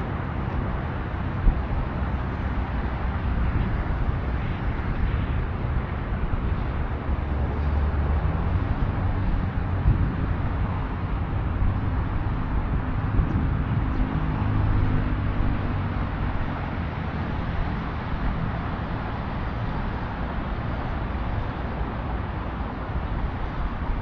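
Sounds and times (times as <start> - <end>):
road traffic noise: 0.0 - 24.0
vehicle engine humming: 0.0 - 24.0.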